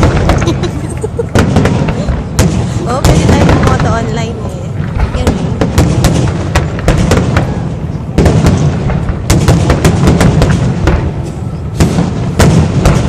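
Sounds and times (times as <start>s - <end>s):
constant low rumble: 0.0s - 13.0s
fireworks bangs and crackling: 0.0s - 13.0s.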